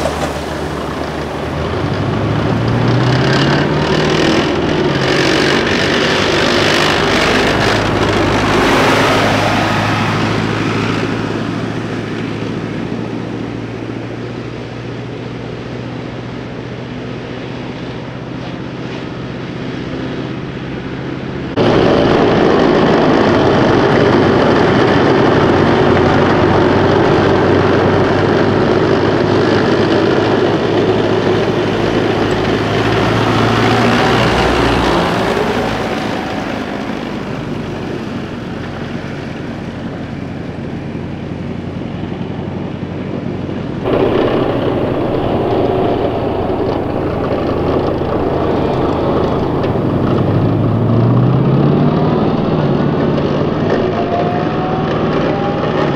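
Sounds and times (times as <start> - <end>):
armored vehicles approaching: 0.0 - 55.9
tracked vehicle driving past: 0.0 - 55.9.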